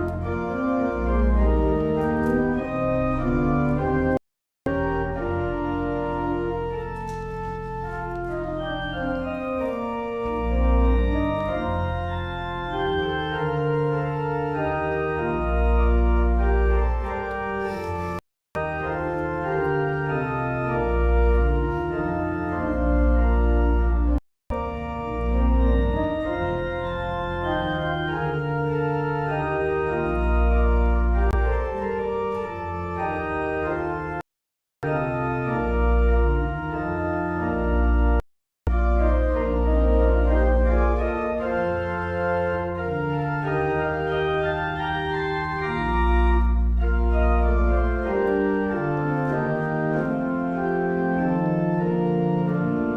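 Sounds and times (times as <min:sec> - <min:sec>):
organ music: 0:00.0 - 0:34.2, 0:34.8 - 0:52.9.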